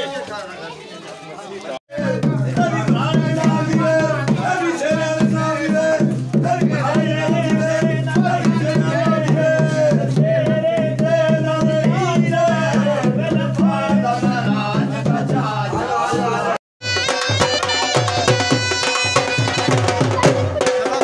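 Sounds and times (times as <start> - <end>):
steady drum beat: 1.9 - 21.0.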